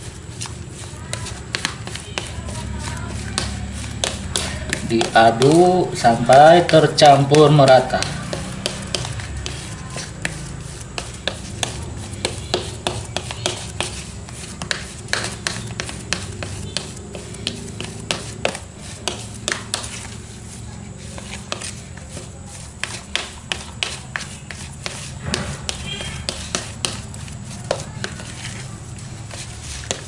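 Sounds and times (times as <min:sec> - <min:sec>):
metal spoon stirring bait mix: 0:00.0 - 0:30.0.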